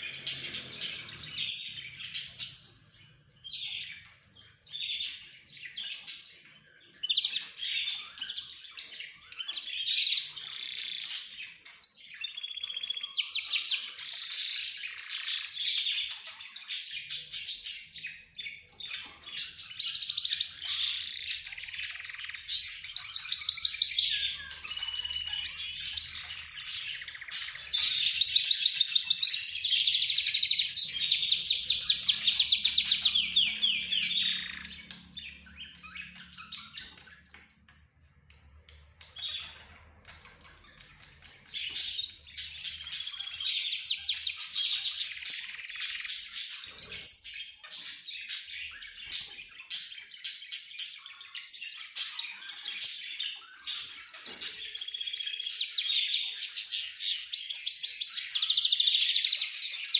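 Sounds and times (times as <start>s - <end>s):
cage birds chirping and singing: 0.0s - 59.9s.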